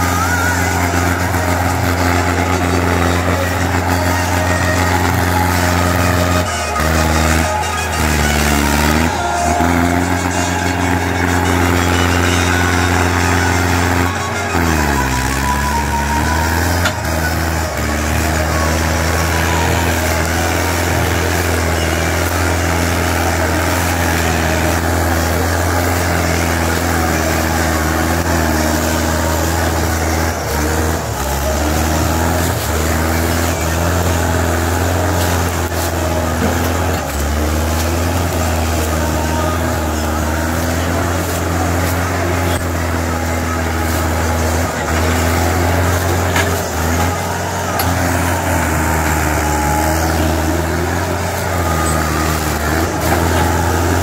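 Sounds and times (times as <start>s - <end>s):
tractor diesel engine labouring: 0.0s - 54.0s.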